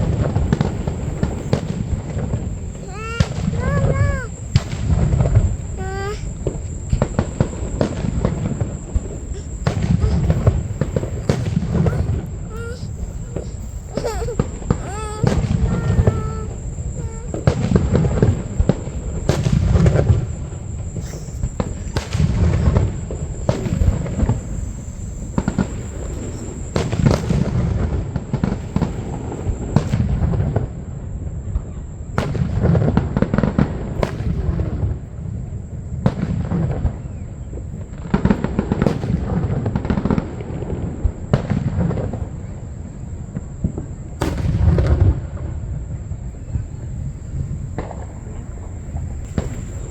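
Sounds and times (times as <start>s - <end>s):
fireworks booming bursts: 0.0s - 49.9s
fireworks cracking reports: 0.0s - 49.9s.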